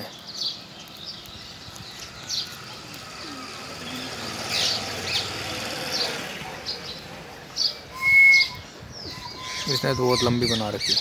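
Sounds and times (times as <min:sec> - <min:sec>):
small birds chirping: 0:00.0 - 0:11.0
traffic rumble: 0:00.0 - 0:11.0.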